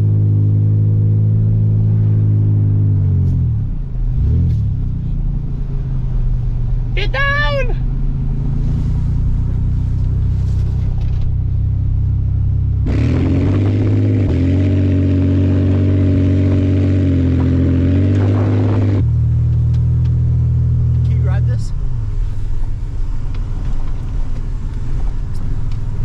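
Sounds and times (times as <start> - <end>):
pickup engine running: 0.0 - 26.0.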